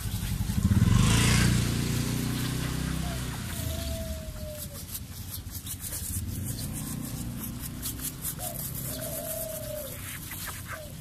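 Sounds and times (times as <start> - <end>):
sponge scrubbing window glass: 0.0 - 11.0.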